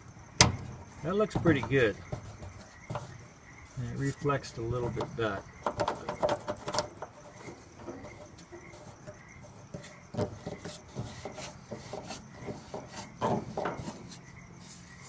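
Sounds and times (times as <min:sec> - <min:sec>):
tube expander scraping metal: 0:00.0 - 0:15.0.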